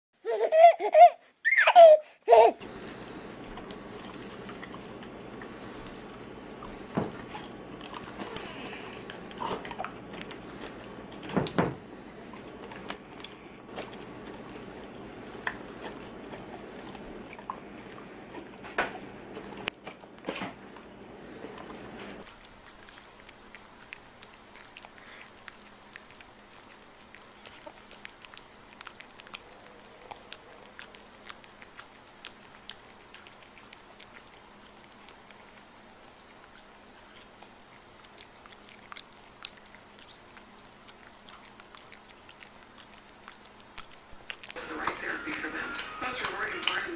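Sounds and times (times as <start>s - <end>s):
dog licking and smacking: 3.4s - 11.5s, 12.3s - 20.9s, 21.6s - 46.9s.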